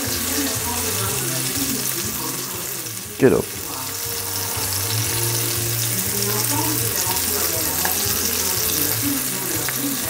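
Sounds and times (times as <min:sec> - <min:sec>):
meat sizzling in hot fat: 0:00.0 - 0:10.0.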